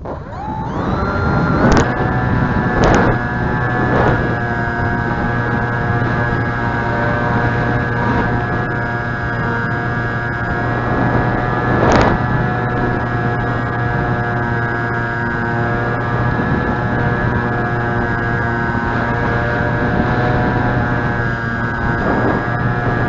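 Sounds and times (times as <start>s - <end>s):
model plane motor whine: 0.0s - 23.0s
wind buffeting microphone: 0.0s - 23.0s.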